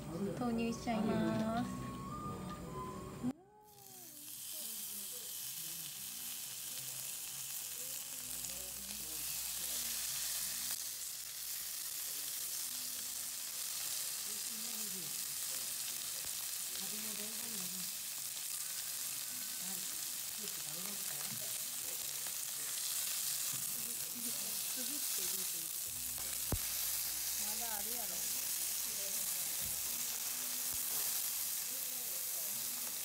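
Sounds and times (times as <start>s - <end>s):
meat sizzling in a pan: 3.6s - 33.0s.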